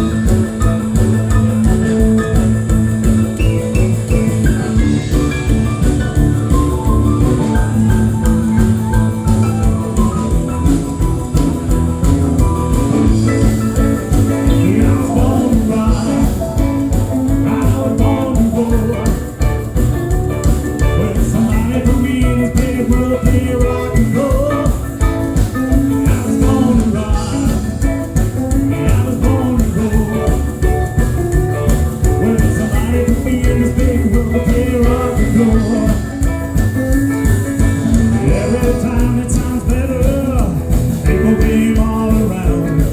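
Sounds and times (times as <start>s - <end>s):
band playing rock and roll: 0.0s - 42.9s.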